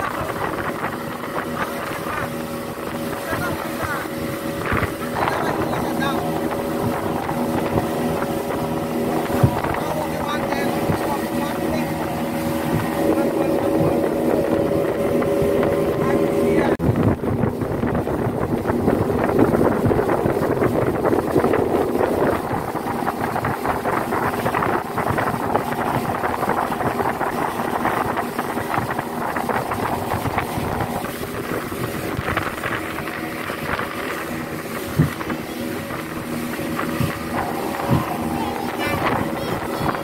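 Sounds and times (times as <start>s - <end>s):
outboard motor running: 0.0s - 40.0s
water rushing past hull: 0.0s - 40.0s
wind buffeting microphone: 0.0s - 40.0s.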